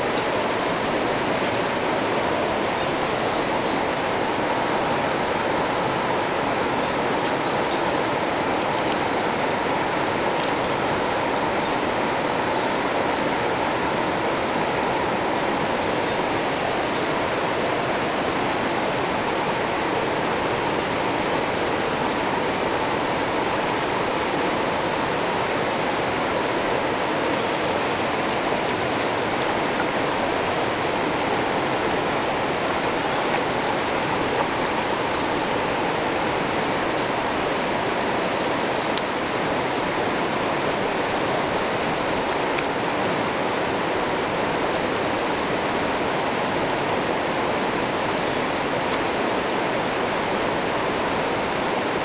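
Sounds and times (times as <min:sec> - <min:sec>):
water rushing over rocks: 0:00.0 - 0:52.0.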